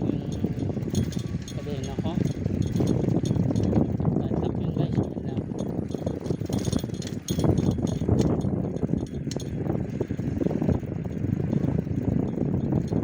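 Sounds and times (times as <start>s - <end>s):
bicycle metallic clinks and rattles: 0.0s - 13.0s
wind buffeting microphone: 0.0s - 13.0s.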